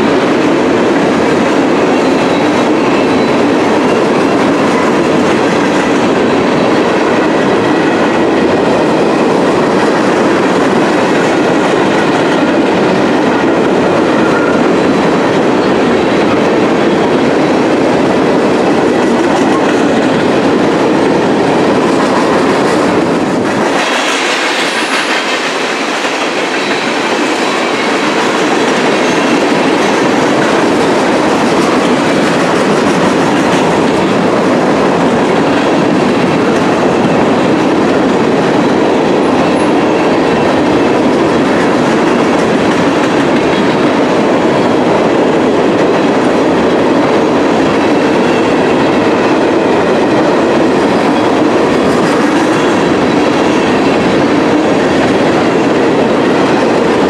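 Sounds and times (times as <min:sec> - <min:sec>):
freight train wheels rolling on rails: 0:00.0 - 0:57.0.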